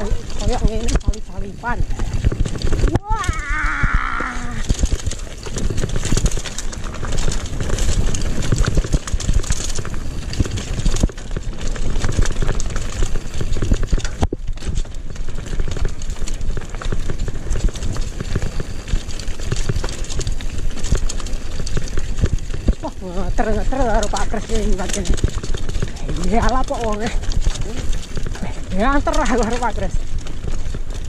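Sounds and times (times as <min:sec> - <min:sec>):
mountain bike rattling over stones: 0:00.0 - 0:31.0
wind rumble on microphone: 0:00.0 - 0:31.0.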